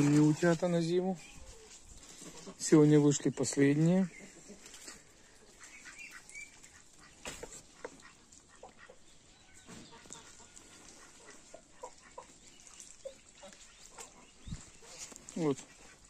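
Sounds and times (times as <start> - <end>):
poultry clucking: 0.0 - 16.0.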